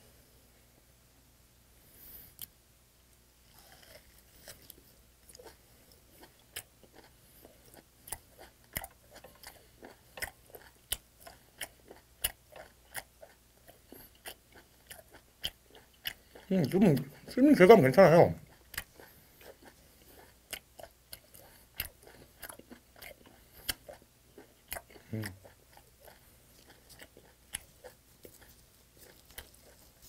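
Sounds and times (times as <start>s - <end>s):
wet sticky chewing: 3.5s - 30.0s.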